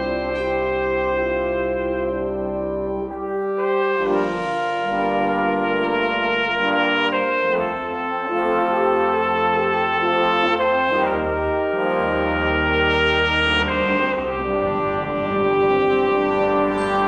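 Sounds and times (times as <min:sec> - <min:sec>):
brass band playing slow chords: 0:00.0 - 0:17.0.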